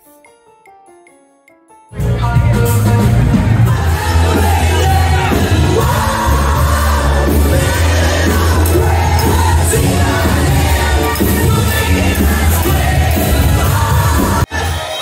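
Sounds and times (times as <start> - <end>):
heavy bass line: 2.0 - 14.5
loud music with singer: 2.0 - 15.0.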